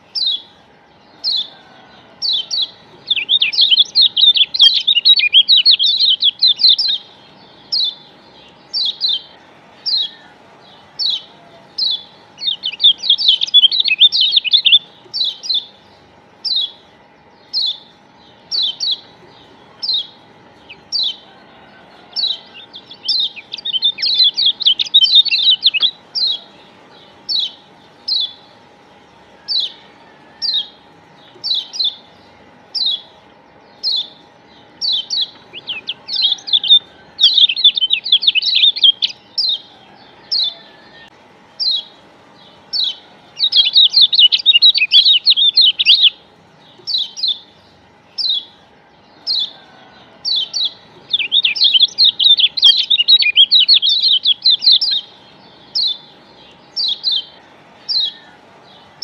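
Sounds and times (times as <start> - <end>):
bird high chirps: 0.0 - 59.0.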